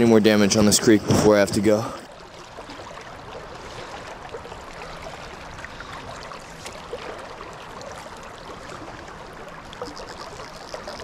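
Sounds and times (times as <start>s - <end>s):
creek water running: 0.0s - 11.0s
water gurgles: 0.0s - 11.0s.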